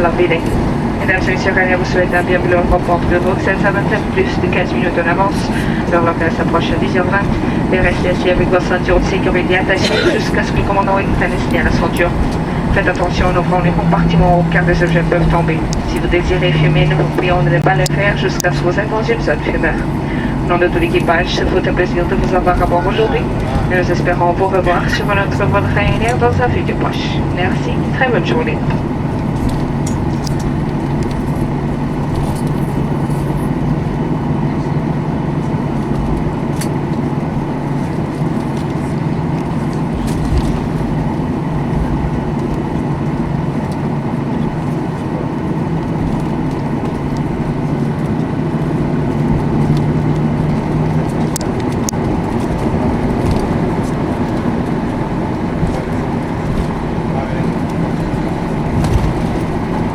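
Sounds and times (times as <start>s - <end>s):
aircraft engines idling hum: 0.0s - 59.9s.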